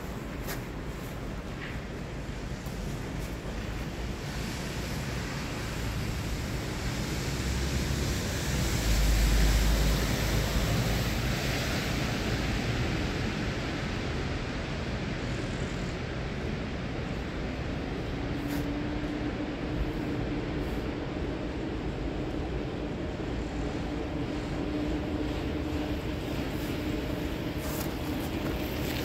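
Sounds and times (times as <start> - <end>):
low traffic rumble: 0.0 - 29.0
vehicles hissing on wet road: 0.0 - 29.0.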